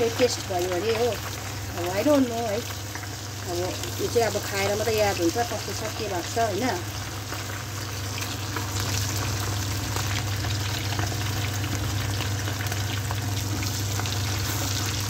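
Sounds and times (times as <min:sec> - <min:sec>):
food sizzling in hot oil: 0:00.0 - 0:15.0
low steady hum: 0:00.0 - 0:15.0.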